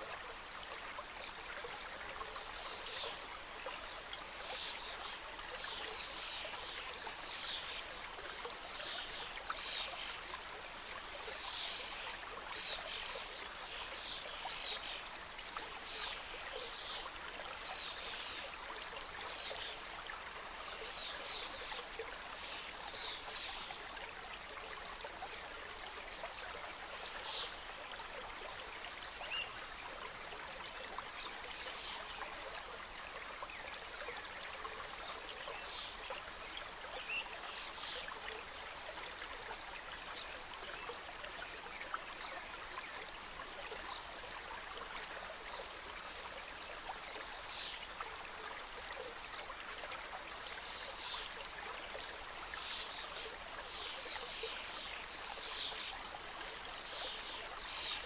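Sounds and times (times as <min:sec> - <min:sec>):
small water splashes: 0:00.0 - 0:58.0
stream flowing over rocks: 0:00.0 - 0:58.0.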